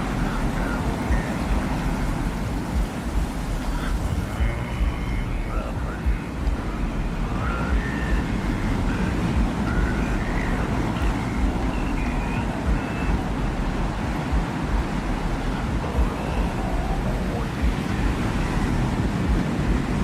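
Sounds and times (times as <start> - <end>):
wind with low rumble: 0.0 - 20.0.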